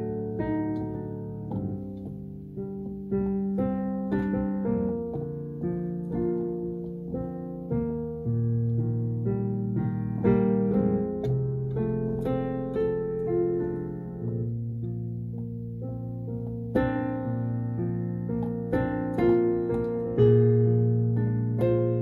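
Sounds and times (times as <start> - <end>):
digital piano chords: 0.0 - 22.0.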